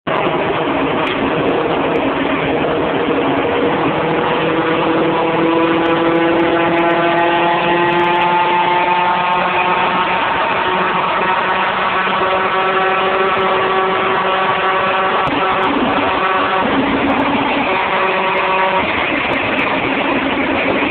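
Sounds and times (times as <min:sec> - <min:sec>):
wind and road noise: 0:00.0 - 0:20.9
car engine pulling hard: 0:00.1 - 0:20.9.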